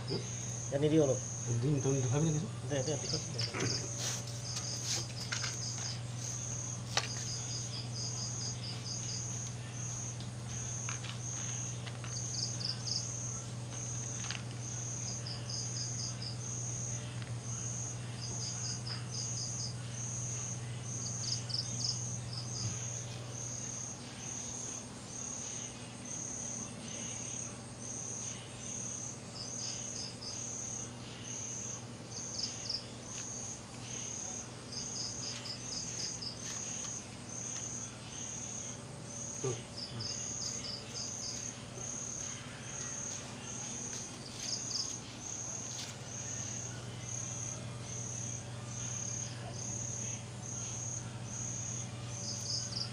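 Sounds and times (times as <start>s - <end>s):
cricket rapid trills: 0.0s - 52.9s
crickets chirping: 0.0s - 52.9s
low steady hum: 0.0s - 52.9s.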